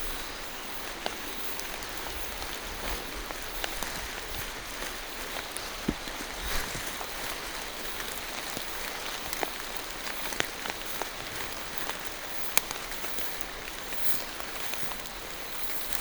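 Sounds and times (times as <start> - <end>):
rain falling through trees: 0.0 - 16.0.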